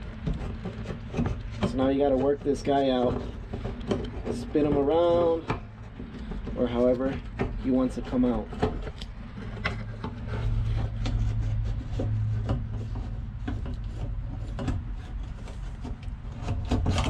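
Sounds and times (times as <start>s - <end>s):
low steady hum: 0.0s - 17.0s
plastic and metal knocks and clicks: 0.1s - 1.8s, 3.0s - 10.3s, 12.0s - 17.0s.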